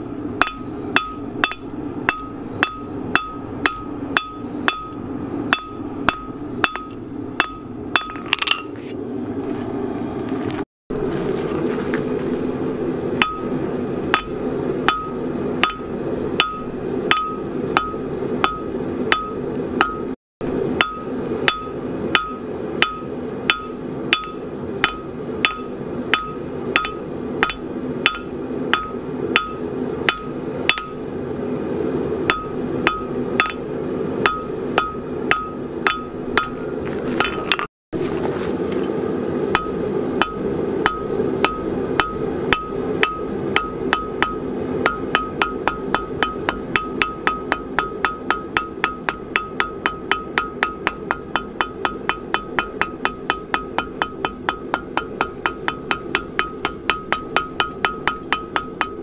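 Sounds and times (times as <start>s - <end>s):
steady low rush: 0.0s - 59.0s
hammer striking metal on anvil: 0.4s - 8.7s, 13.2s - 20.1s, 20.7s - 31.0s, 32.3s - 37.7s, 39.5s - 59.0s.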